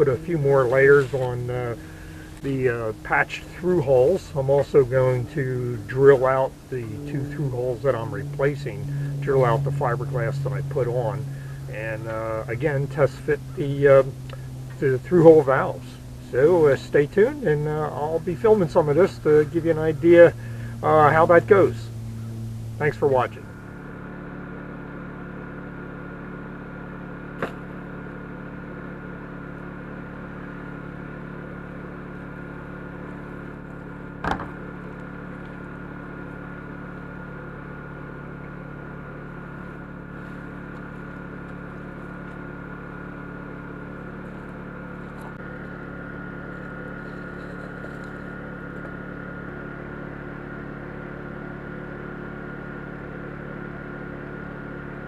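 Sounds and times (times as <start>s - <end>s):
portable generator running: 0.0s - 55.0s.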